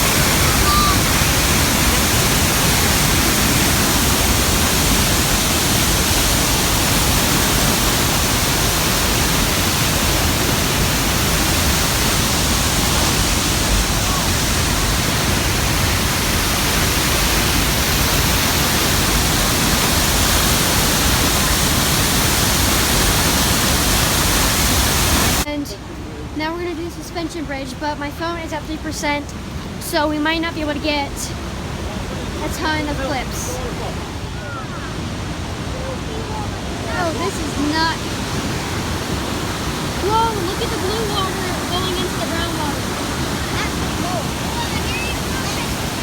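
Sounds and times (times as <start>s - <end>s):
waterfall rushing: 0.0s - 26.3s, 31.3s - 46.0s.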